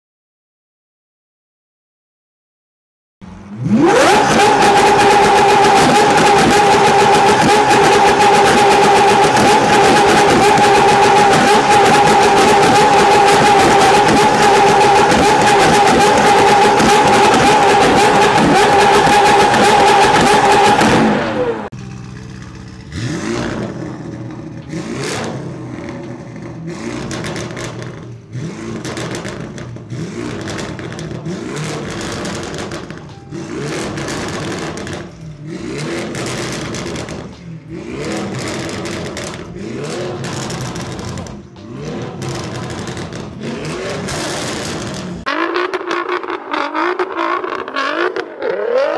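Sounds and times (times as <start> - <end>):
car engine revving: 3.2 - 48.9
sports car engine at high revs: 3.3 - 48.9.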